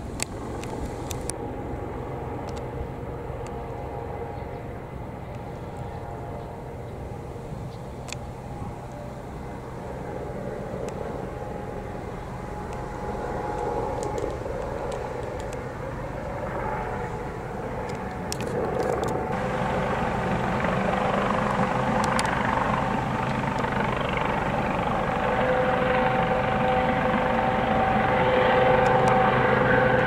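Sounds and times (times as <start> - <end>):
helicopter rotor and turbine: 0.0 - 30.0.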